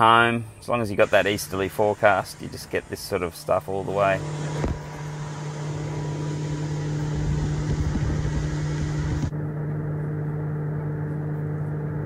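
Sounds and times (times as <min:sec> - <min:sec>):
motorboat engine hum: 0:00.8 - 0:12.0.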